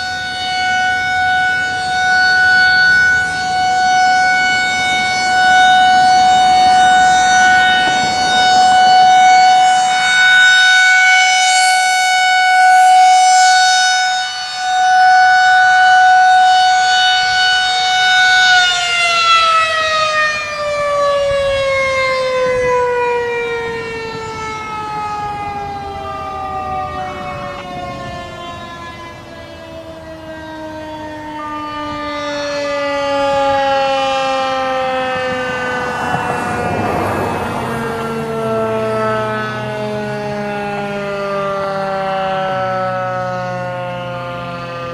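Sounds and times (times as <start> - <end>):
distant warning sirens: 0.0 - 44.9
warning siren: 0.0 - 44.9.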